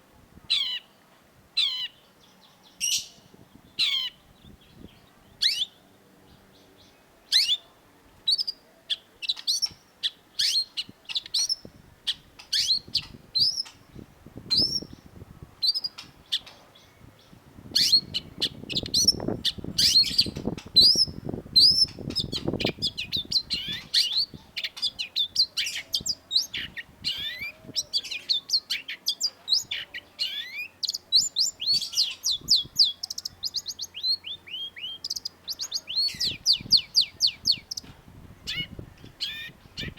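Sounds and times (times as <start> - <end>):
low muffled noise: 0.0 - 39.9.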